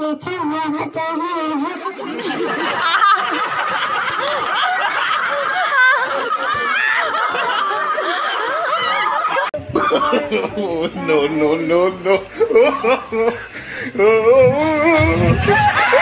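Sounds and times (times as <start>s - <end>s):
audience laughing: 1.5s - 11.4s, 12.1s - 16.0s.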